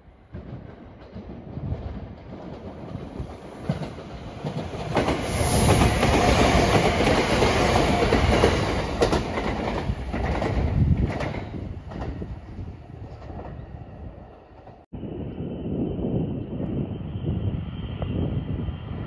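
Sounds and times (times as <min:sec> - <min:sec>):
electric train passing: 0:00.4 - 0:19.0.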